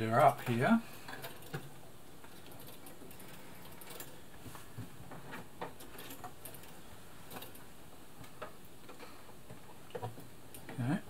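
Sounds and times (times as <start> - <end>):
steady faint hiss: 0.0 - 11.0.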